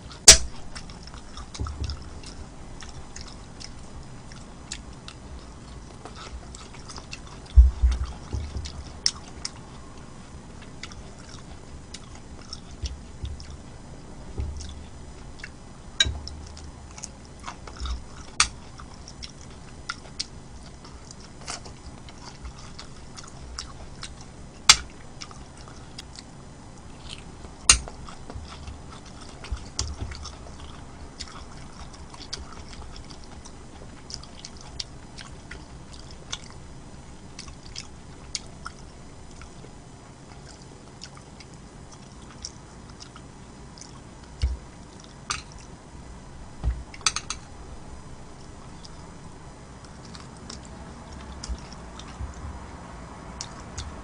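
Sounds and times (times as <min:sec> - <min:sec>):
person chewing food: 0:00.0 - 0:47.6, 0:48.2 - 0:54.0.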